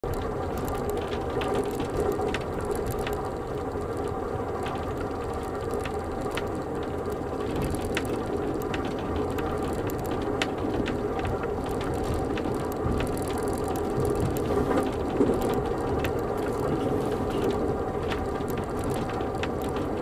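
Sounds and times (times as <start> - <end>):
train running gear rumble: 0.0 - 20.0.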